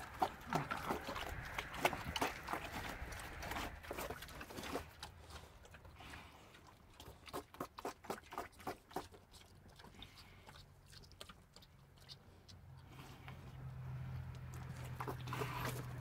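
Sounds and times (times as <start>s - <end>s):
piglets chewing wet grain: 0.0s - 16.0s.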